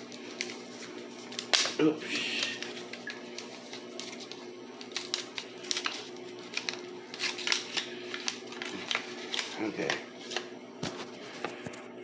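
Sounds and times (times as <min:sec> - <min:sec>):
tea packet crinkling: 0:00.0 - 0:11.8
steady low hum: 0:00.0 - 0:12.0.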